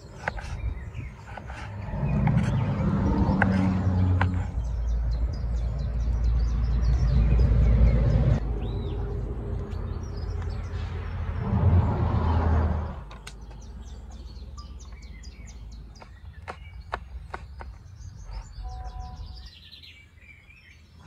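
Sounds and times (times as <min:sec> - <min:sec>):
low engine rumble: 0:00.0 - 0:16.9
small birds chirping: 0:00.0 - 0:21.0.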